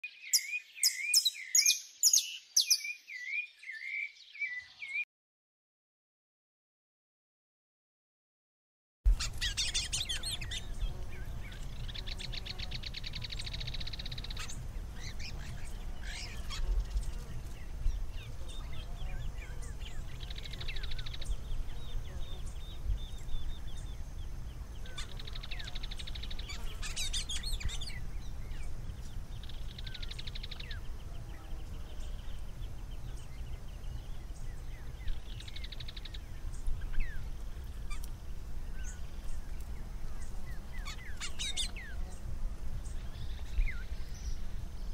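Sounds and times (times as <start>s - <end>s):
bird singing trills: 0.0s - 5.0s, 9.1s - 44.9s.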